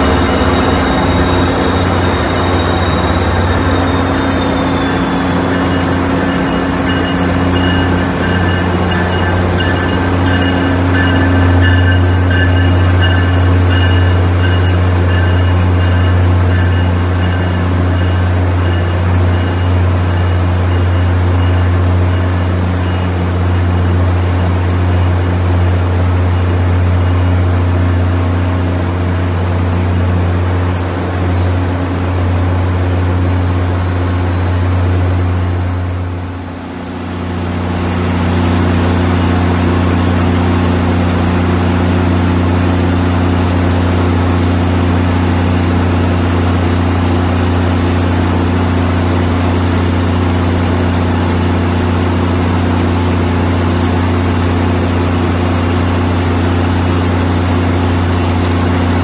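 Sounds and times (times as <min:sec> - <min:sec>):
diesel train engine drone: 0:00.0 - 0:59.0.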